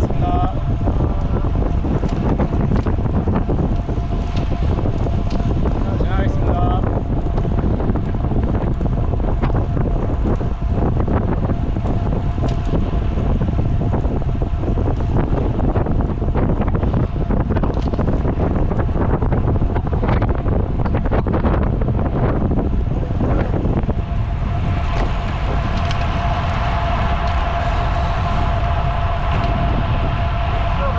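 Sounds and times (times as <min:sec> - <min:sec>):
steady whine with overtones: 0:00.0 - 0:30.9
wind buffeting microphone: 0:00.0 - 0:30.9.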